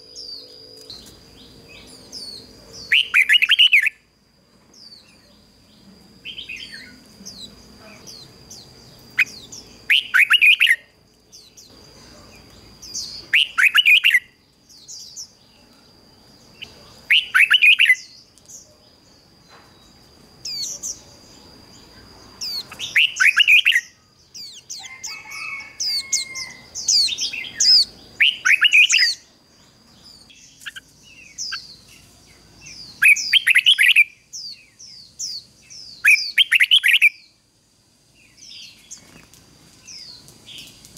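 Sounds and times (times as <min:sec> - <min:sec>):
soft high bird chirps: 0:00.0 - 0:04.1, 0:04.7 - 0:37.4.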